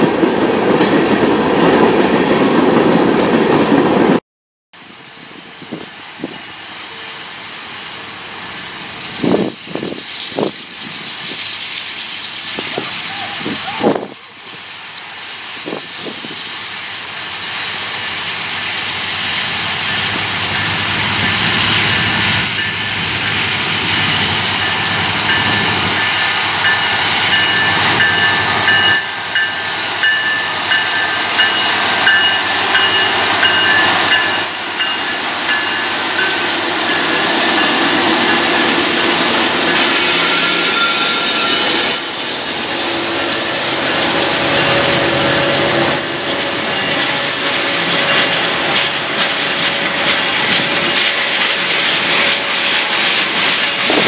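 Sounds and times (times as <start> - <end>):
diesel locomotives passing: 0.0 - 4.2, 4.8 - 54.0
freight cars rolling on rails: 4.8 - 54.0.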